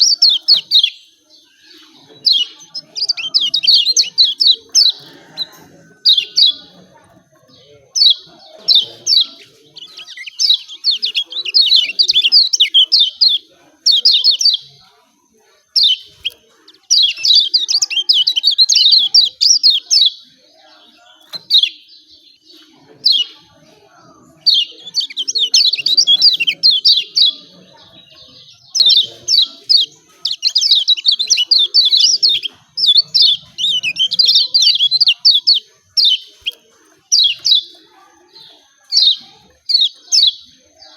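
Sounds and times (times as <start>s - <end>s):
bird chirping high-pitched: 0.0s - 14.9s, 15.6s - 40.9s.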